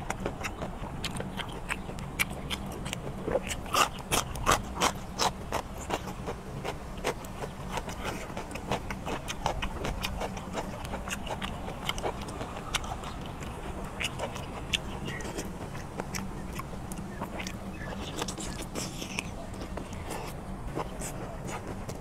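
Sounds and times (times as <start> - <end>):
person chewing: 0.0 - 22.0
steady low hum: 0.0 - 22.0.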